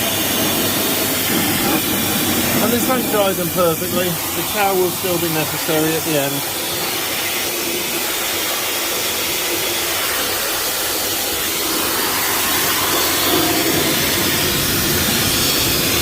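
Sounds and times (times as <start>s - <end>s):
blow-dryer blasting air: 0.0s - 16.0s.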